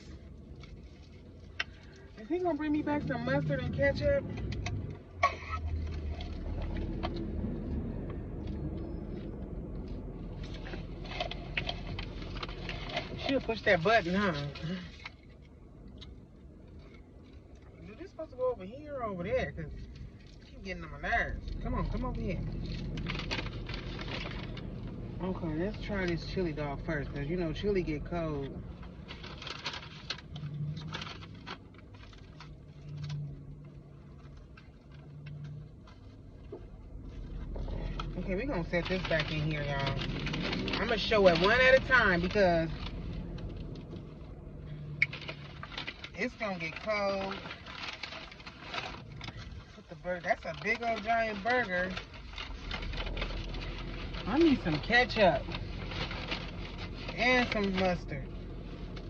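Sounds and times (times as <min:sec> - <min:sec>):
small clicks and rustles: 0:00.0 - 0:26.9, 0:27.6 - 0:59.0
car engine idling: 0:00.0 - 0:59.0
low steady hum: 0:00.0 - 0:59.0.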